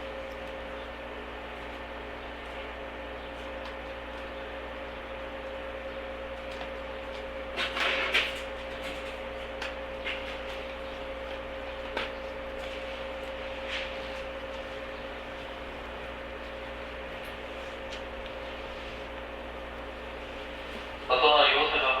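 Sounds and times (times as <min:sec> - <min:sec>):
electric train motor hum: 0:00.0 - 0:22.0.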